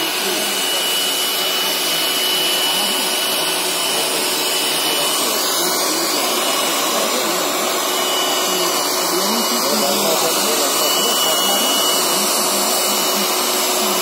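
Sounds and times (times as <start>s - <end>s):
hot-air blower with high whine: 0.0s - 14.0s.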